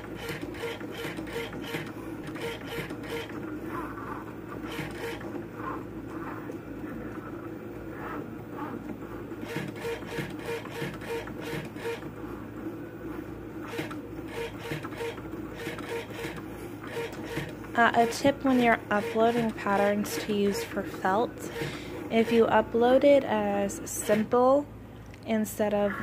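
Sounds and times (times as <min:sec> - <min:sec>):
cutting machine motor whir: 0:00.0 - 0:24.4.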